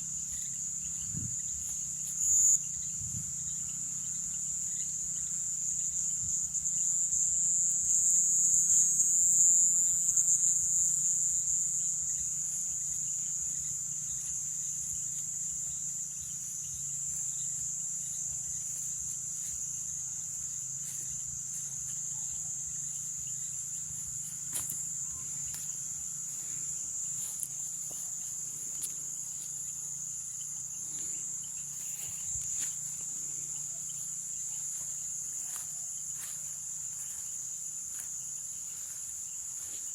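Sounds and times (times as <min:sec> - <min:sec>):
insect chorus shrill trill: 0:00.0 - 0:39.9.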